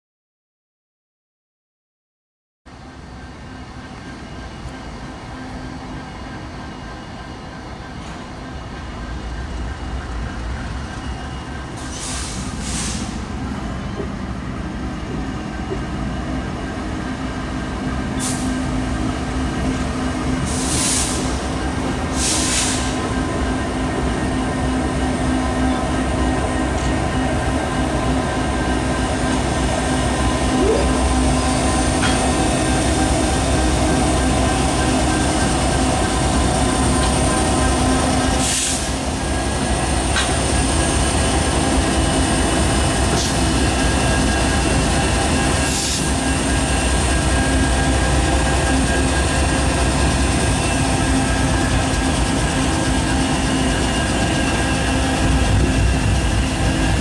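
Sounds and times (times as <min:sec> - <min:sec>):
diesel locomotive engines rumbling: 0:02.7 - 0:57.0.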